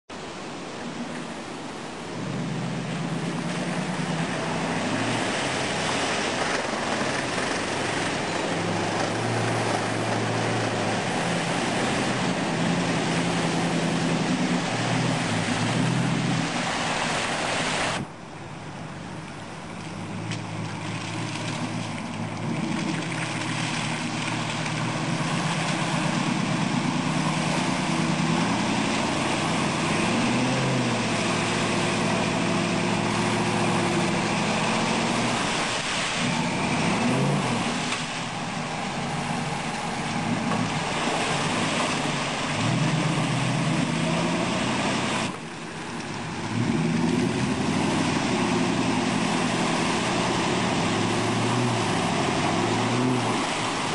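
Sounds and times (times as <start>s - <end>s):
tyres churning mud: 0.1s - 53.9s
truck engine revving: 2.0s - 53.9s.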